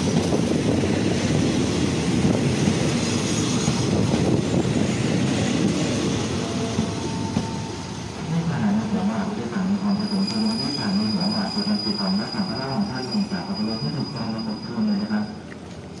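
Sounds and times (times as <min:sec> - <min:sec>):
locomotive rumble and hiss: 0:00.0 - 0:16.0.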